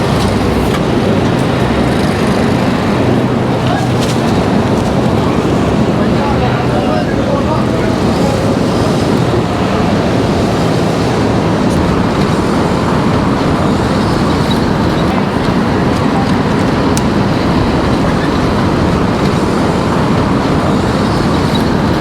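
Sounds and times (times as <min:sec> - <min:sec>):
road and traffic noise: 0:00.0 - 0:22.0.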